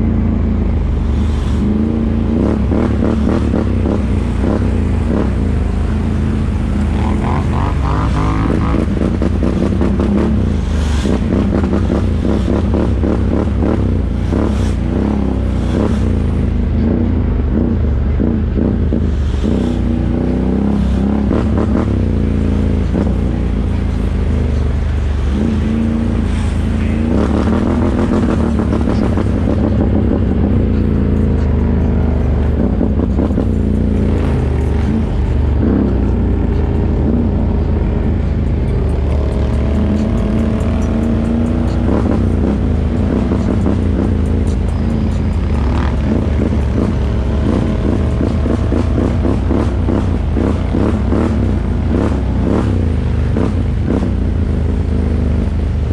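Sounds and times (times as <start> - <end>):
atv engines revving: 0.0 - 55.9
steady low rumble: 0.0 - 55.9.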